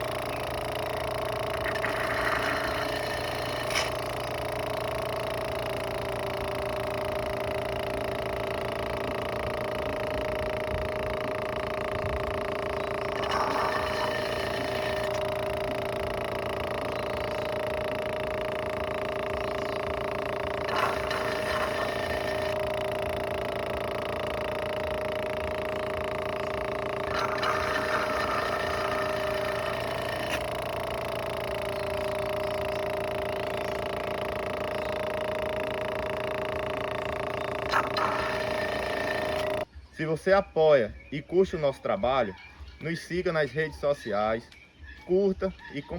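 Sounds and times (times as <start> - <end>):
electric suction pump humming: 0.0 - 39.7.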